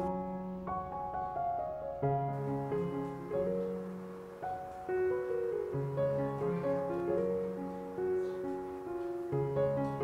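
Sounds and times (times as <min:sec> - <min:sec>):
gentle piano-like melody: 0:00.0 - 0:10.0.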